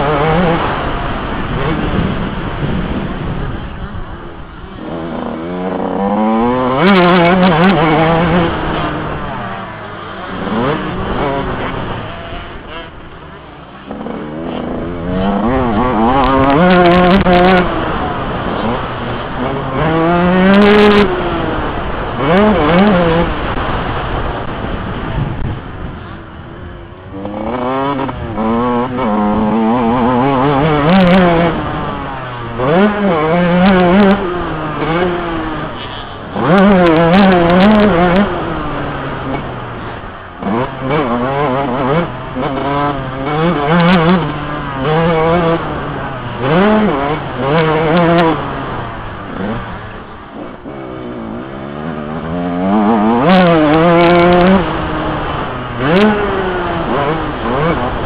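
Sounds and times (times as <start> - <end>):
two-stroke motocross engine revving: 0.0 - 58.0.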